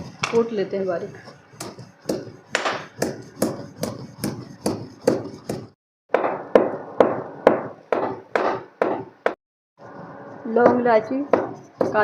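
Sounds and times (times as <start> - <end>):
pestle pounding in a mortar: 1.1 - 9.4, 10.5 - 12.0.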